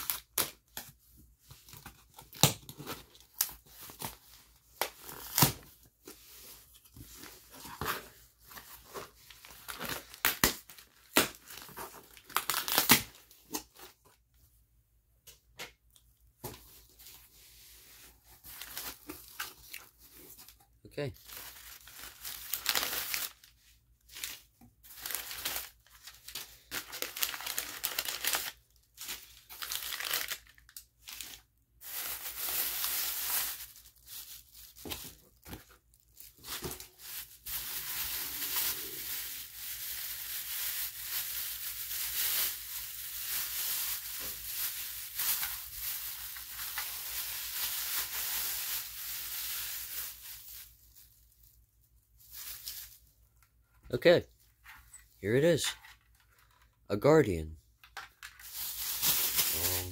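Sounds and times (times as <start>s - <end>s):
packaging tearing and rustling: 0.0s - 14.0s, 18.3s - 20.6s, 21.2s - 51.5s, 58.1s - 59.9s.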